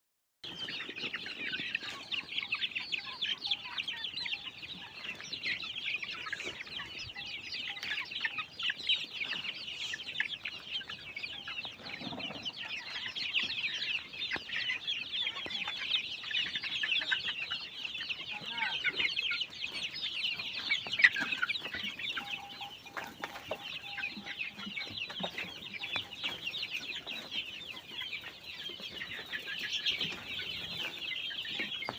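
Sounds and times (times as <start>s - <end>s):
flock of chickens clucking: 0.4s - 31.9s.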